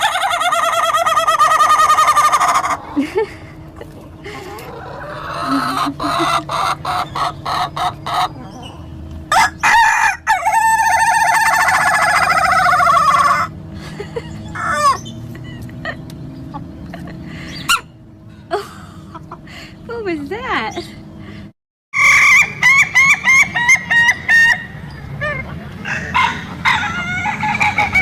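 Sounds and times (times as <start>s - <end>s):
rooster laugh-like crowing: 0.0s - 8.5s, 9.3s - 17.8s, 22.0s - 28.0s.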